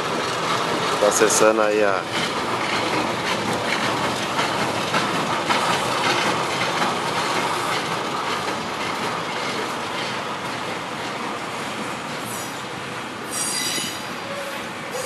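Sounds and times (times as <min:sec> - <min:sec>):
wheels clacking over rail joints: 0:00.0 - 0:12.3
diesel locomotive engine: 0:00.0 - 0:15.0.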